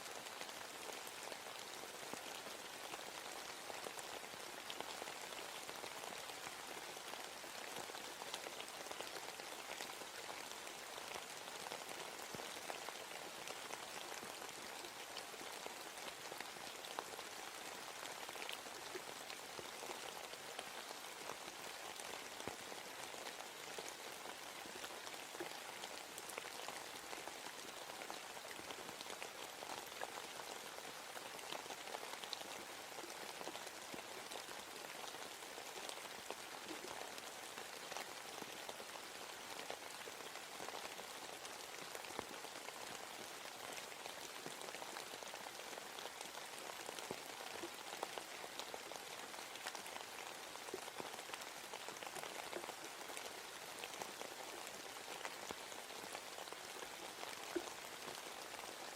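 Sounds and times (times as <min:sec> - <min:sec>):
rain falling on a forest: 0:00.0 - 0:58.9.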